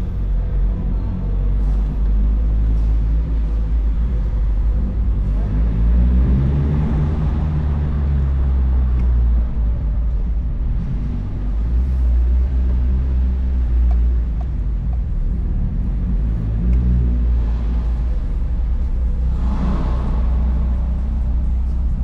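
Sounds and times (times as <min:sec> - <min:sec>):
car engine exhaust drone: 0:00.0 - 0:22.0.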